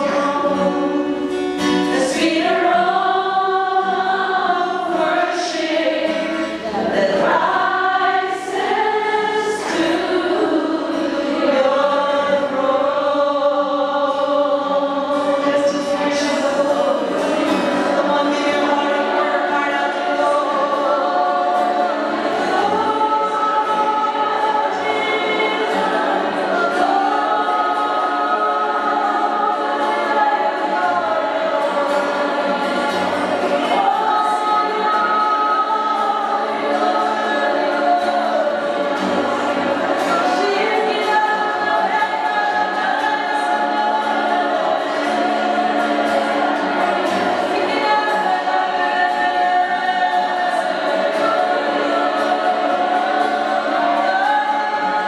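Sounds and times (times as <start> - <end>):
acoustic guitar: 0.0 - 55.0
group singing worship song: 0.0 - 55.0.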